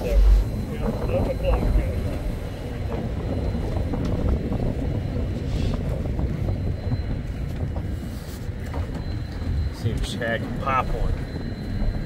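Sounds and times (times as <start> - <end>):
boat engines rumbling: 0.0 - 12.0
wind on microphone: 0.0 - 12.0.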